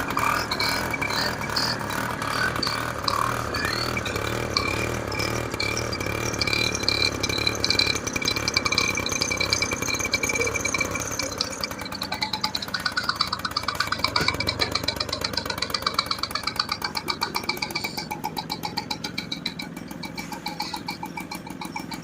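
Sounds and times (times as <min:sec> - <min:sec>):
scooter engine rattly idle: 0:00.0 - 0:22.0.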